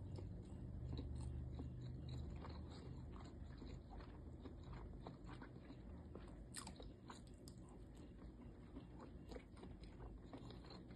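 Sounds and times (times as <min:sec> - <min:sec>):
chewing and eating: 0:00.0 - 0:10.9.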